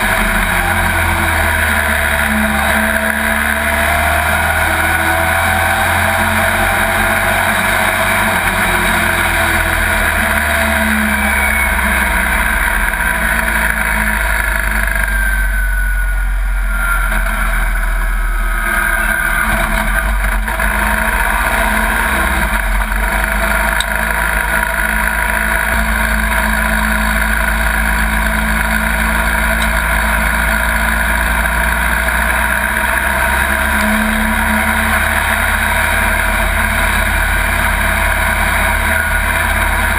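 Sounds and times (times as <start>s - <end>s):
racing truck engine running: 0.0s - 39.9s.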